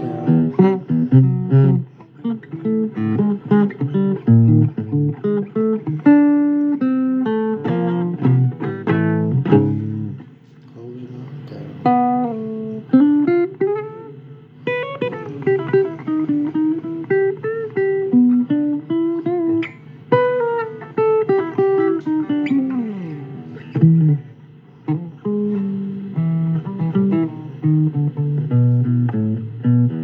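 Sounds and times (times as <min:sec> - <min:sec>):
plucked guitar melody: 0:00.0 - 0:10.4, 0:11.4 - 0:30.0
guitar slide: 0:00.0 - 0:10.5, 0:11.2 - 0:30.0.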